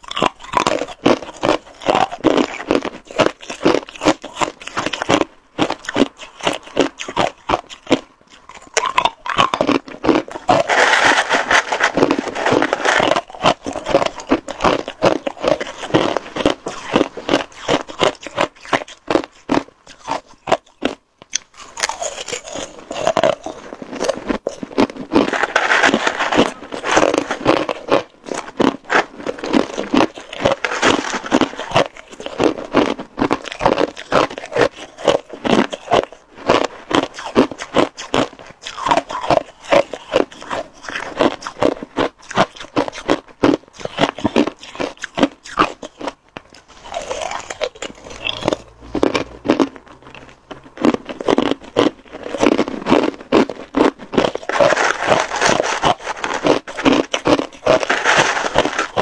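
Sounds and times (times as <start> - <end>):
metal spoon scraping ice: 0.0 - 21.0, 21.6 - 59.0
ice being chewed: 0.0 - 59.0.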